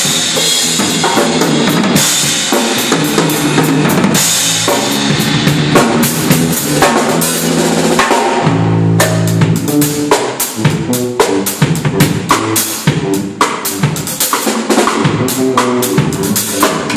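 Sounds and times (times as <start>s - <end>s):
drum kit playing: 0.0s - 16.9s
electric bass guitar: 0.0s - 16.9s.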